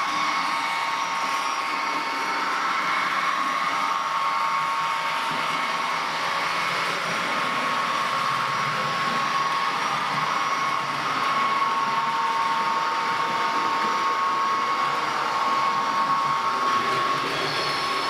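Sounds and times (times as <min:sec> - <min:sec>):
model train whirring hum: 0:00.0 - 0:18.0.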